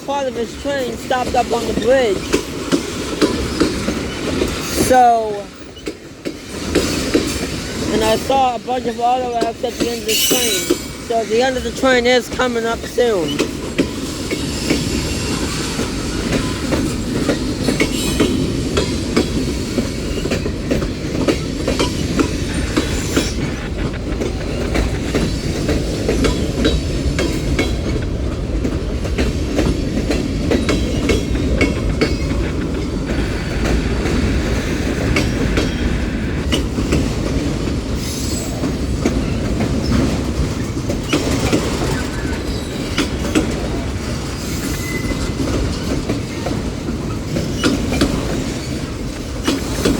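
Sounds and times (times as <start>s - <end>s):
wheels clicking over rail joints: 0.0s - 33.8s, 36.5s - 49.9s
freight train rumbling: 0.0s - 49.9s.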